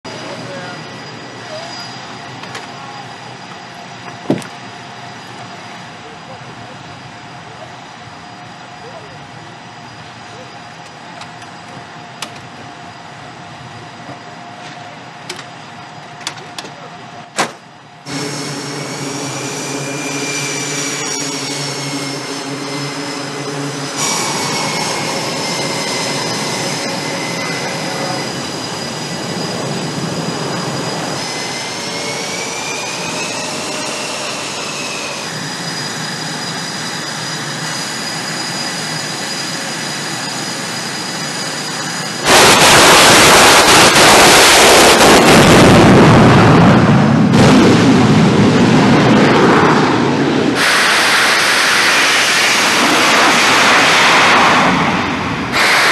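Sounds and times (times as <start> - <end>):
jet engine roaring at full power: 0.0 - 55.9
jet engines whining: 0.0 - 55.9.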